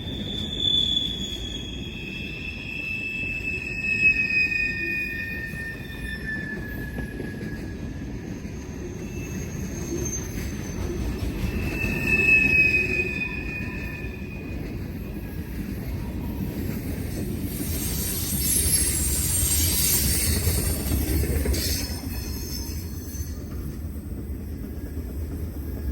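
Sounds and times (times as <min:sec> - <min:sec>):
freight train rumbling past: 0:00.0 - 0:25.9
train wheels squealing: 0:00.0 - 0:25.9.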